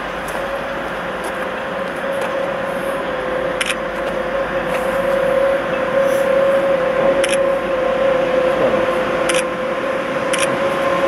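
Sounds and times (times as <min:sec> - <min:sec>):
train rumbling with constant tone: 0:00.0 - 0:11.0.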